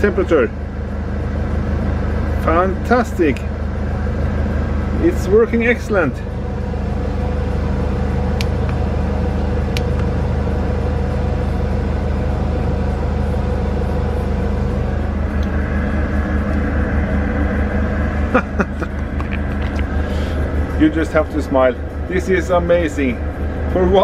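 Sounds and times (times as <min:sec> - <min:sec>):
van engine idling: 0:00.0 - 0:24.0.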